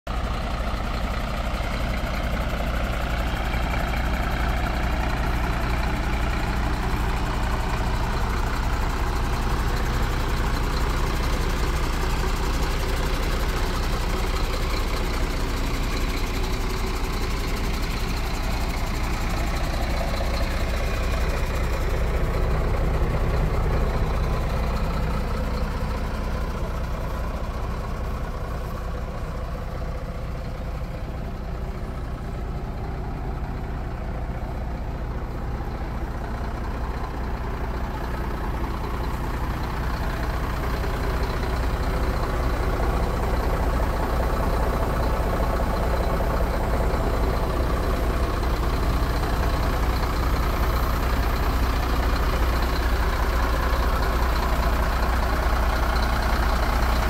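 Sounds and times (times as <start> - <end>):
diesel engine idling: 0.1 - 57.0.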